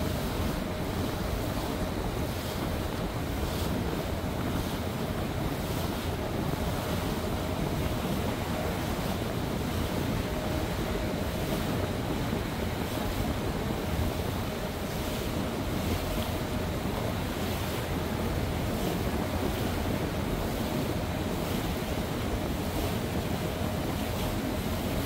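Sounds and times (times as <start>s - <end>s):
motorboat engine running: 0.0s - 25.0s
water washing along hull: 0.0s - 25.0s
wind buffeting microphone: 0.0s - 25.0s.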